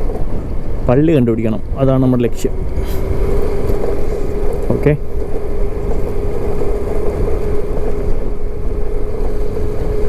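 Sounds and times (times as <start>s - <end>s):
motorcycle engine hum: 0.0s - 10.0s
wind rumble on microphone: 0.0s - 10.0s.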